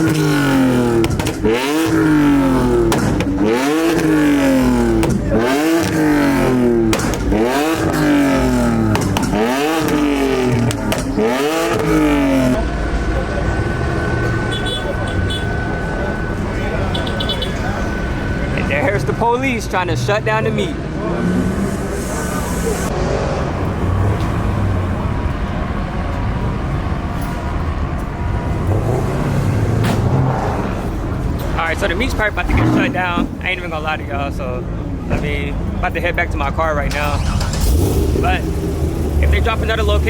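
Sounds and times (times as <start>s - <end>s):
car engine revving: 0.0s - 40.0s
traffic noise: 0.0s - 40.0s.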